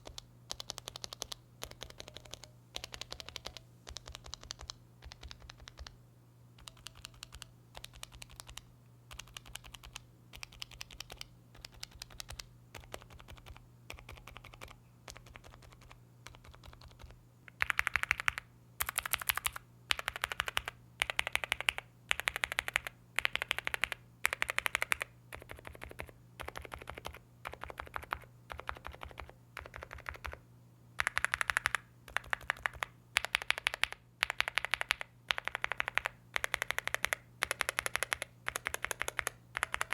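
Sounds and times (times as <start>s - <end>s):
mechanical keyboard typing: 0.0s - 6.0s, 6.6s - 30.4s, 31.0s - 39.9s
faint steady hum: 0.0s - 39.9s.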